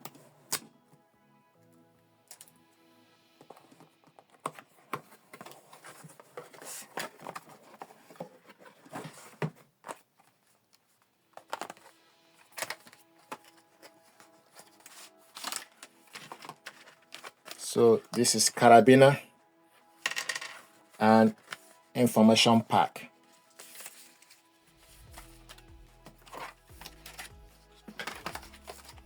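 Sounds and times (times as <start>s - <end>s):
faint background music: 0.0s - 29.0s
cardboard and plastic rustling: 3.4s - 19.2s, 19.8s - 29.0s.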